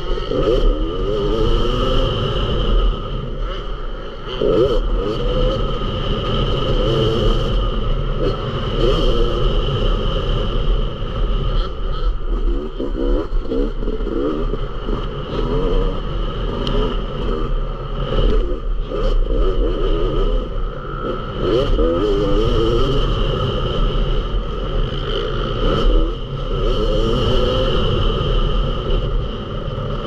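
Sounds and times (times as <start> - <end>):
dirt bike engine revving: 0.0 - 30.0
steady low rumble: 0.0 - 30.0.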